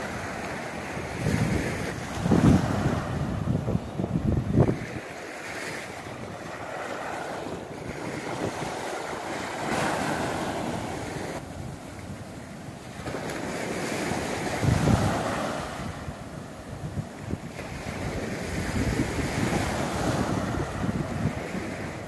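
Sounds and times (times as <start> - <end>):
waves breaking on beach: 0.0 - 22.0
wind buffeting microphone: 0.0 - 22.0.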